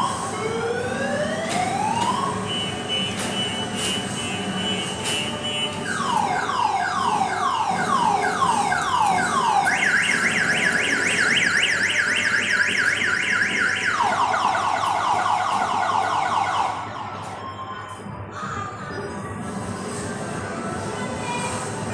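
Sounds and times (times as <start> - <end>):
car alarm siren: 0.0 - 17.9.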